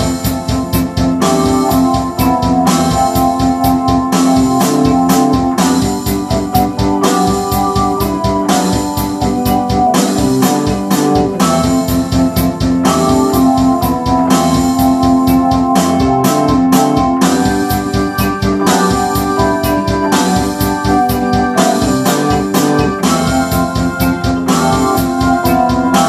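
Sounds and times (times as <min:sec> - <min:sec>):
drum beat: 0:00.0 - 0:26.0
synthesizer chords: 0:00.0 - 0:26.0.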